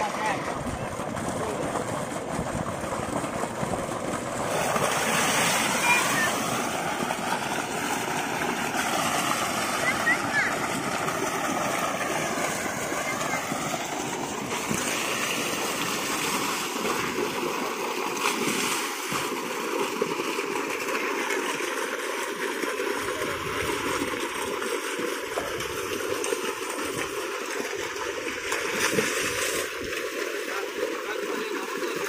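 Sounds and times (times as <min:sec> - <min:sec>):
people splashing in water: 0:00.0 - 0:32.0
water gushing into tank: 0:00.0 - 0:32.0.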